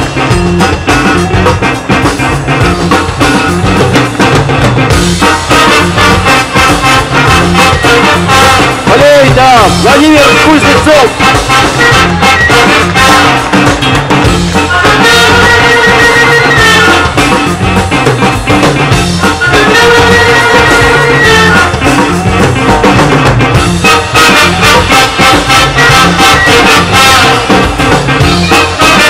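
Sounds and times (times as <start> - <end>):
jazz big band playing: 0.0 - 29.0.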